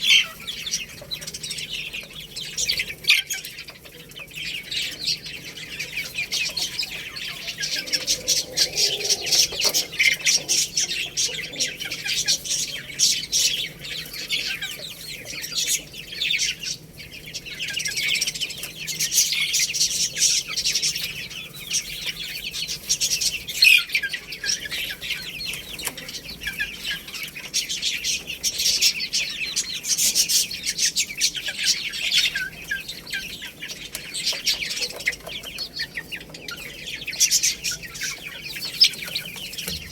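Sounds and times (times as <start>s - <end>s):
baby chicks cheeping: 0.0s - 39.9s.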